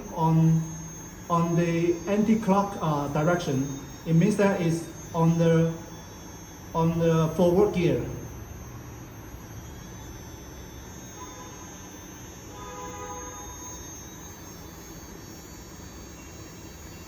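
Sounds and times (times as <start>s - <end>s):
electric motor humming with high whine: 0.0s - 17.0s.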